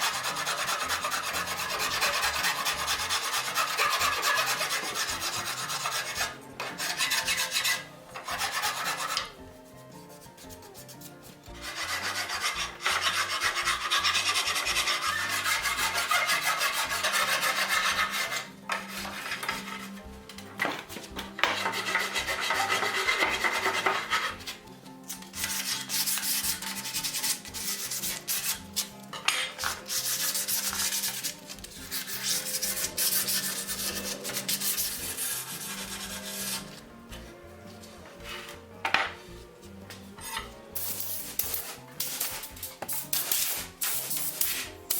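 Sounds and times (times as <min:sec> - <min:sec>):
wood rasp scraping wood: 0:00.0 - 0:44.9.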